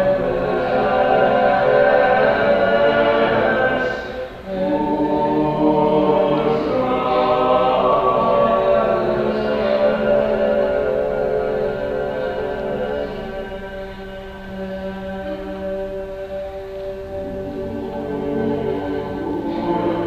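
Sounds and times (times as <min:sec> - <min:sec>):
choir singing unaccompanied: 0:00.0 - 0:20.0.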